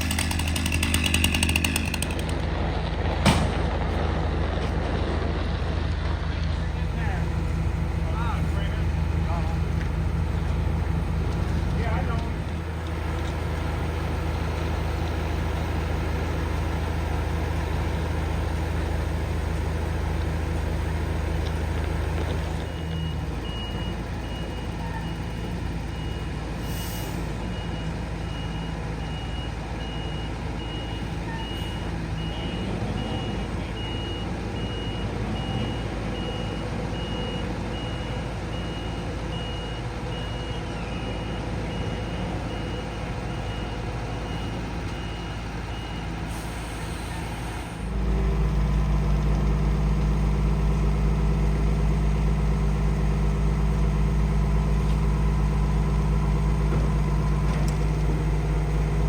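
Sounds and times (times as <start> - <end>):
heavy vehicle engine running: 0.0 - 59.0.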